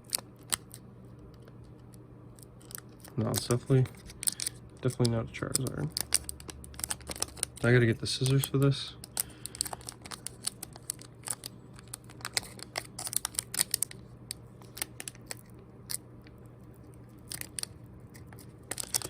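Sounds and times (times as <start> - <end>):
foil wrapper crinkling: 2.4 - 19.0.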